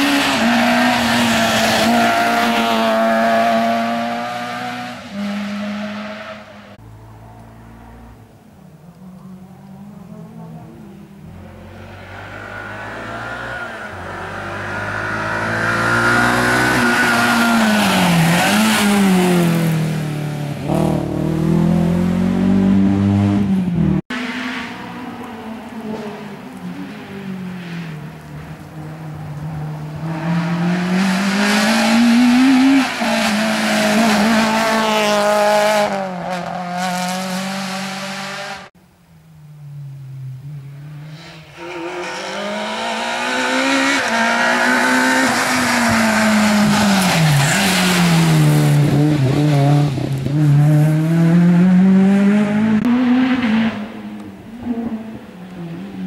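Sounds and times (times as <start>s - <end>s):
rally car engines revving: 0.0s - 38.7s, 39.8s - 56.0s.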